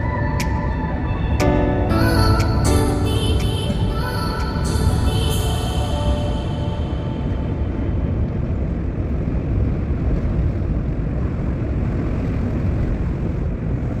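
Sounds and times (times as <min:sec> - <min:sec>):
car wind and road noise: 0:00.0 - 0:14.0.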